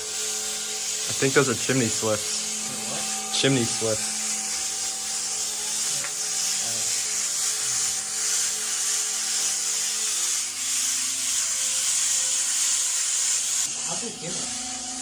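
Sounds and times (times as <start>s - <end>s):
nestlings raspy hissing chatter: 0.8s - 15.0s.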